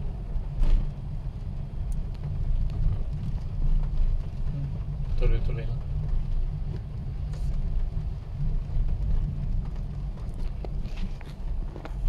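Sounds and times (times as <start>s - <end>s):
car engine and road rumble: 0.0s - 12.0s
raindrops ticking on windshield: 0.0s - 12.0s.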